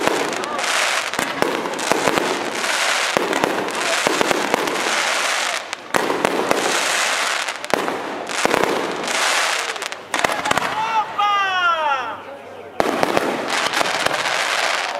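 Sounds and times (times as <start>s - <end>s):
fireworks crackling and popping: 0.0s - 10.9s, 12.8s - 14.9s.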